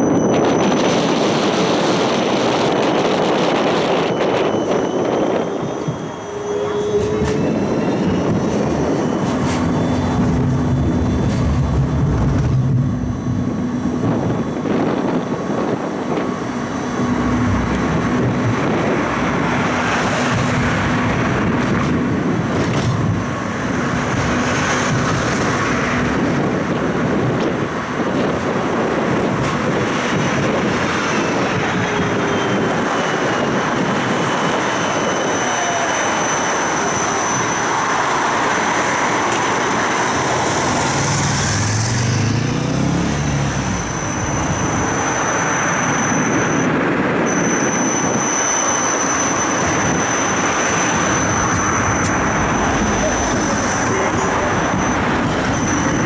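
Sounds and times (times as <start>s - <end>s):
tram wheel and rail rumble: 0.0s - 56.0s.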